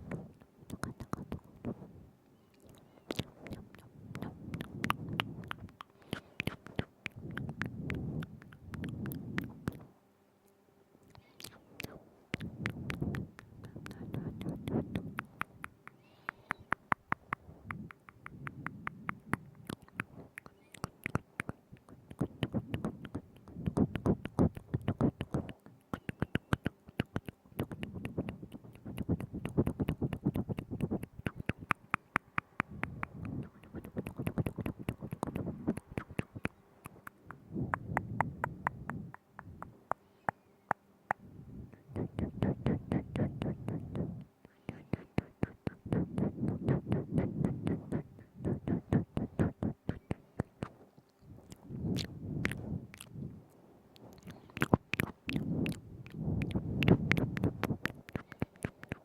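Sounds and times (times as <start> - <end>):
lip and tongue clicks: 0.0 - 1.8, 2.5 - 9.9, 11.0 - 53.3, 53.9 - 59.0.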